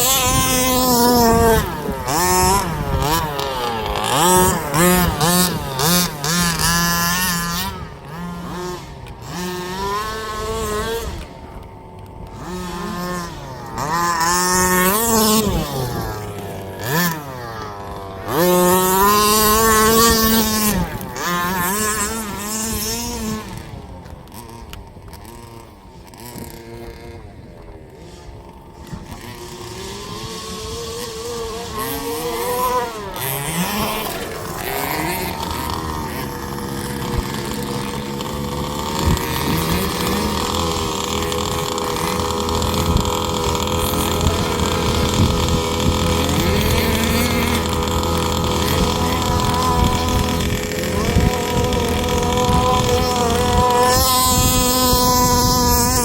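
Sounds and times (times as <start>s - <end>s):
small two-stroke engines revving: 0.0s - 56.0s.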